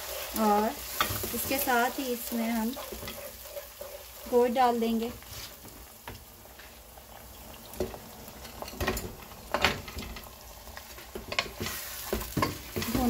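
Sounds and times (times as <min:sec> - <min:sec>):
food frying in oil: 0:00.0 - 0:13.0.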